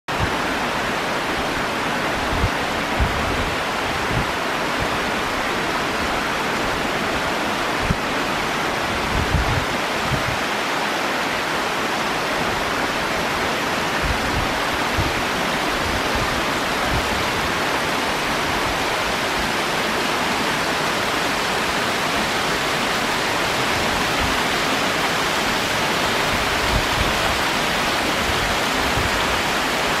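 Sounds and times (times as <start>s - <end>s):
small waterfall splashing: 0.1s - 30.0s.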